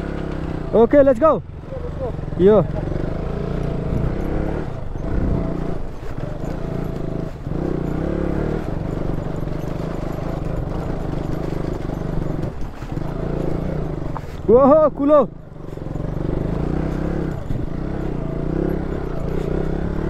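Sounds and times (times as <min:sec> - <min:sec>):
motorcycle engine at low revs: 0:00.0 - 0:20.0
motorcycle knocking and rattling: 0:00.0 - 0:20.0.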